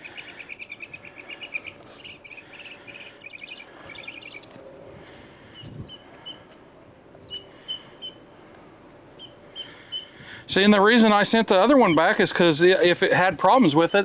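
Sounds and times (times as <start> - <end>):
birds chirping in trills: 0.0 - 14.0.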